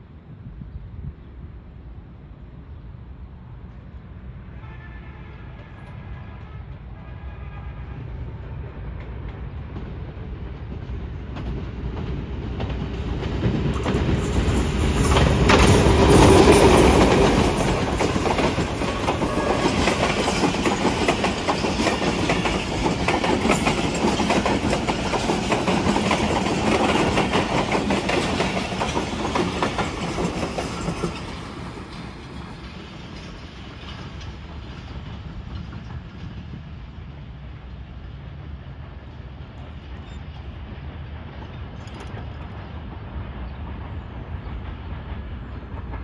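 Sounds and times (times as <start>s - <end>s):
diesel locomotive passing: 0.0s - 46.0s
train wheels clickety-clack: 8.5s - 46.0s.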